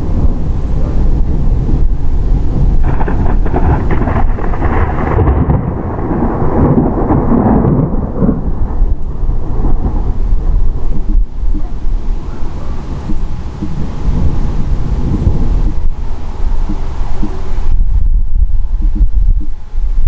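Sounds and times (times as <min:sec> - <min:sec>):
rolling thunder: 0:00.0 - 0:20.0.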